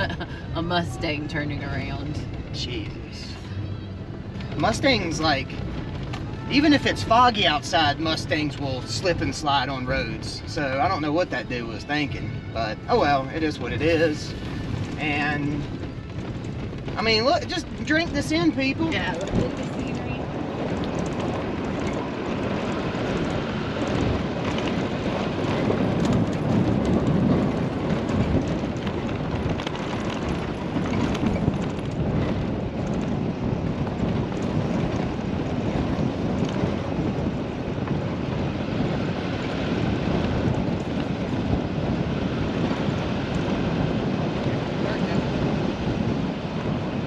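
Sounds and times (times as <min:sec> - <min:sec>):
wind noise on microphone: 0:00.0 - 0:47.0
tyres rumbling on gravel: 0:04.1 - 0:47.0.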